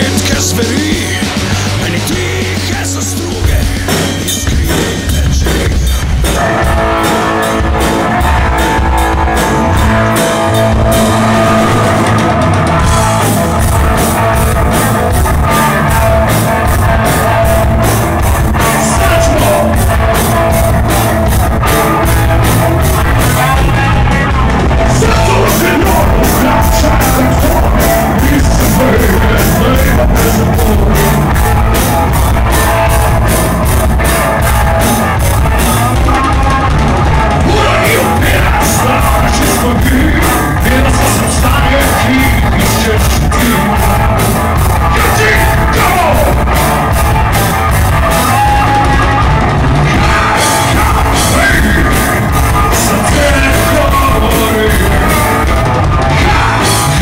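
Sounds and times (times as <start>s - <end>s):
person singing: 0.0s - 47.4s, 48.0s - 57.0s
drum kit with cymbals: 0.0s - 57.0s
electric bass: 0.0s - 57.0s
electric guitar: 0.0s - 57.0s.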